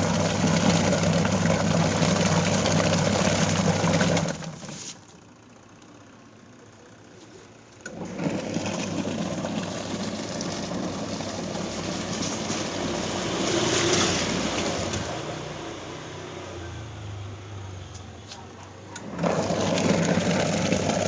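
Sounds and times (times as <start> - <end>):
washing machine running: 0.0 - 6.9, 7.6 - 21.0.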